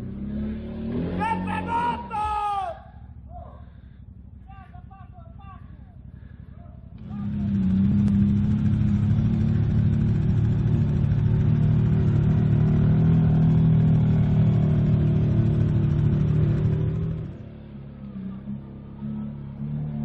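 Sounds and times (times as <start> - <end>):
atv engine revving high: 0.0 - 2.6, 6.1 - 20.0.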